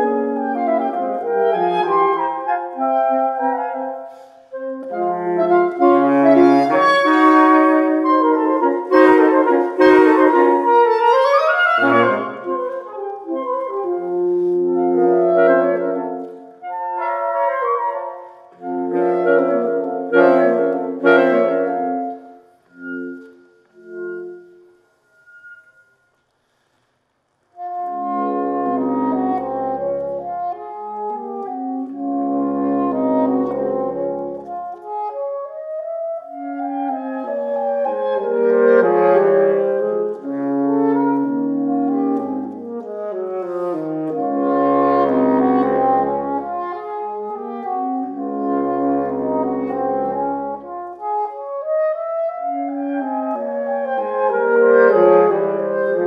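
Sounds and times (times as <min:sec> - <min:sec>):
saxophone quartet playing: 0:00.0 - 0:25.8, 0:27.6 - 0:56.0.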